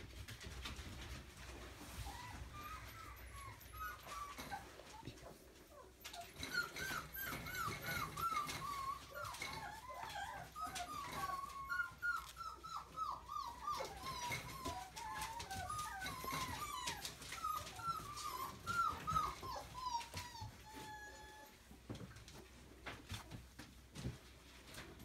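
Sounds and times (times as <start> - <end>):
puppy whining: 0.4 - 25.0.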